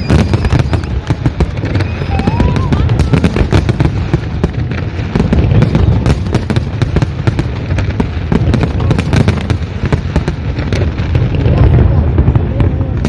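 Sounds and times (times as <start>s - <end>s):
booming firework shells: 0.0s - 12.3s
fireworks crackling bangs: 0.0s - 13.0s.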